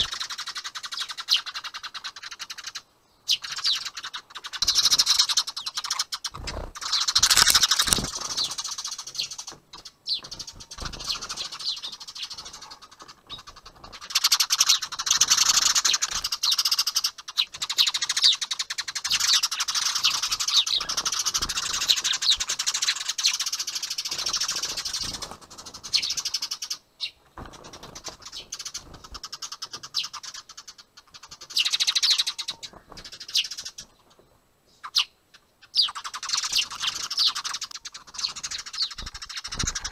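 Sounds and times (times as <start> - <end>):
sparrows chirping rapidly: 0.0 - 39.9.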